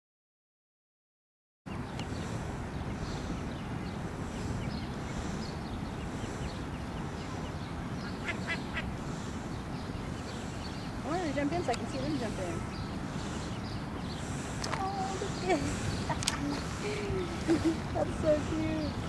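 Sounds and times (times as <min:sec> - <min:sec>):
ducklings peeping: 0:01.7 - 0:19.0
low background noise: 0:01.7 - 0:19.0.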